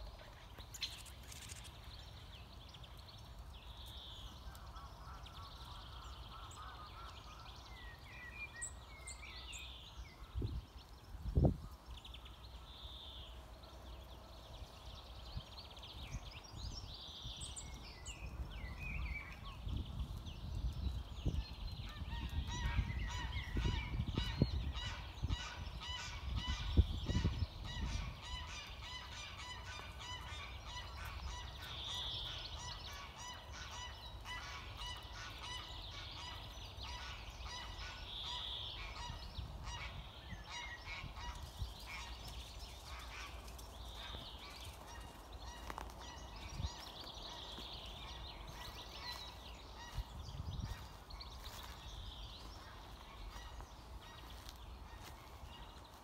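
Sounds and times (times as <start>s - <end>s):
birds calling: 0.0s - 56.0s.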